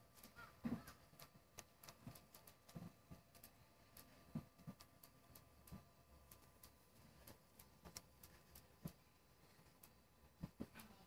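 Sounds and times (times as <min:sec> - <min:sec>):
faint irregular ticks: 0:00.0 - 0:11.0.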